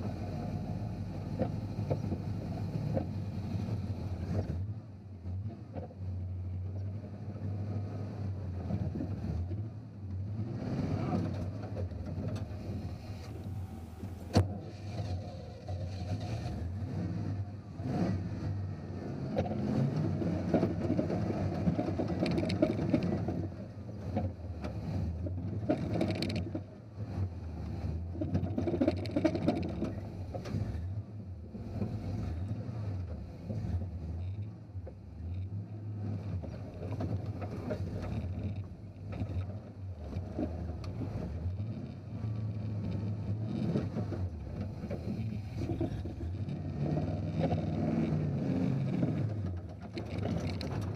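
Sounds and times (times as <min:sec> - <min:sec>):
off-road vehicle motor: 0:00.0 - 0:50.9.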